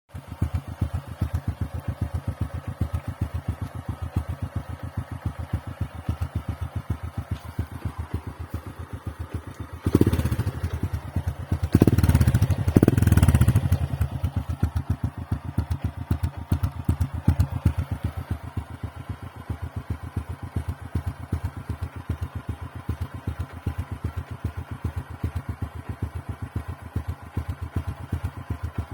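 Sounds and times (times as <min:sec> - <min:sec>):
motorcycle idling and revving: 0:00.1 - 0:28.9.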